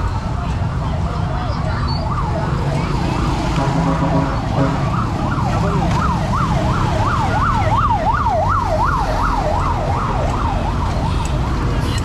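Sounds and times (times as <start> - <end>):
siren yelping: 0.0 - 3.6, 4.4 - 11.8
low traffic rumble: 0.0 - 12.0.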